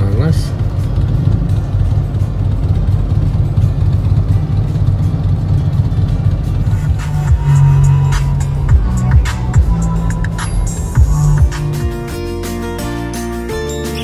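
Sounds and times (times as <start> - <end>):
motorcycle idling: 0.0 - 14.0.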